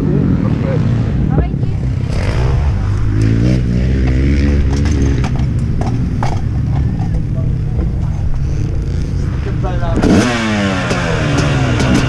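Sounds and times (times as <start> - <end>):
two-stroke engine running: 1.3 - 12.0.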